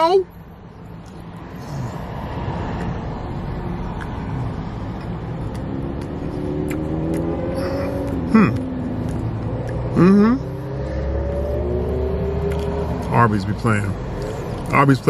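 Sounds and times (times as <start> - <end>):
low vehicle rumble: 0.3 - 15.0.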